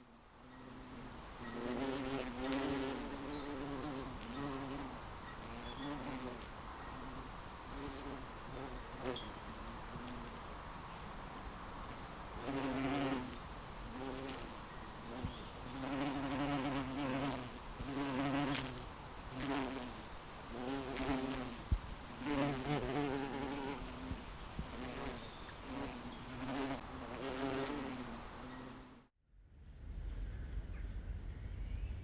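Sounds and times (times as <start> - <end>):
bees buzzing: 0.0 - 11.2, 11.8 - 29.0.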